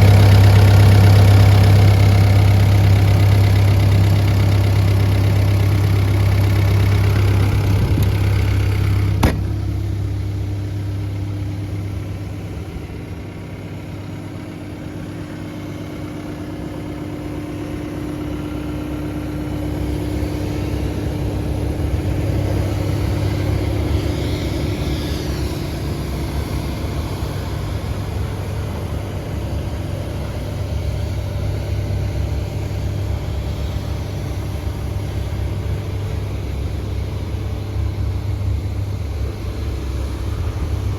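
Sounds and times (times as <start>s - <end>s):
excavator diesel engine humming: 0.0s - 40.9s.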